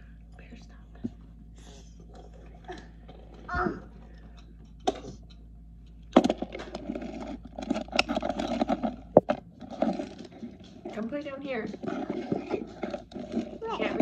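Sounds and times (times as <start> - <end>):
toys clattering and rattling: 2.0 - 14.0.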